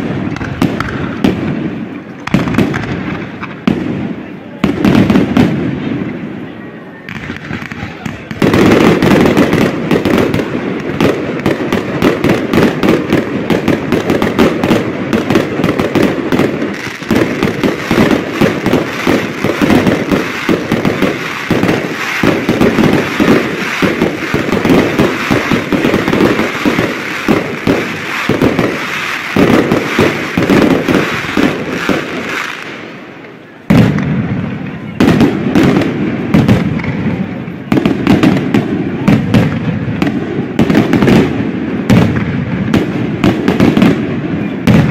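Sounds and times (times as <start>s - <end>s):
fireworks bursts: 0.0s - 44.9s.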